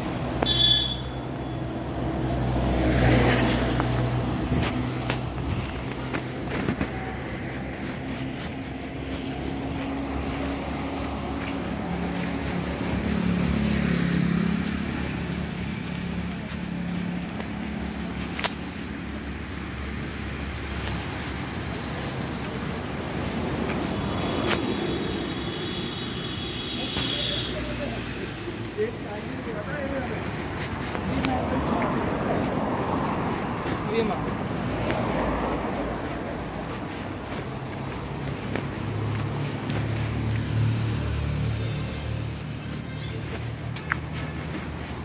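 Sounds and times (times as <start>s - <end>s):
vehicle engines running: 0.0s - 45.0s.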